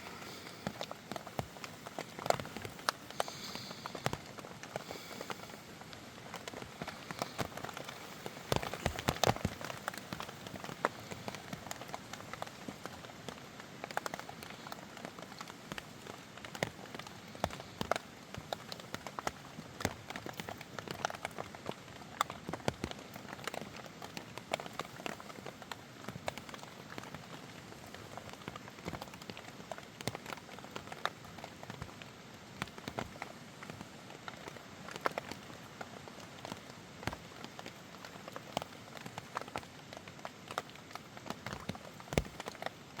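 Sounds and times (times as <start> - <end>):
raindrops ticking on surfaces: 0.0 - 43.0
steady rain hiss: 0.0 - 43.0.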